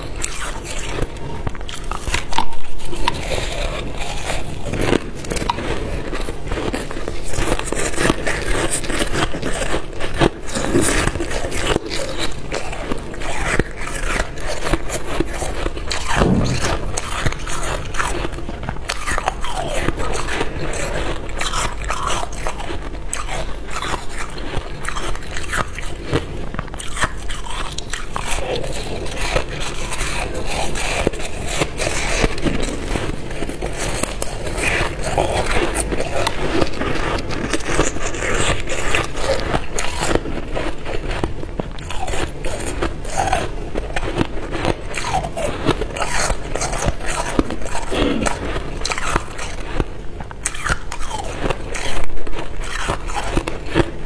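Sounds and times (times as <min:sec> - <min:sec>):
crunching ice chewing: 0:00.0 - 0:54.0.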